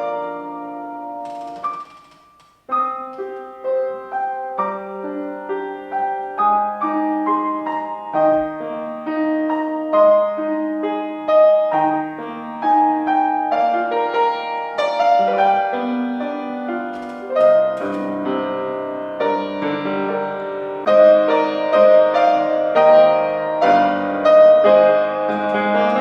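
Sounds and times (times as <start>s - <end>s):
slow piano melody: 0.0s - 26.0s.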